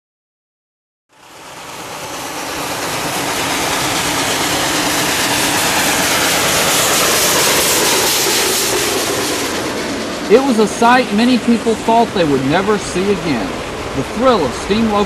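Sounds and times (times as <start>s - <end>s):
steam locomotive exhaust rushing: 1.1s - 15.0s.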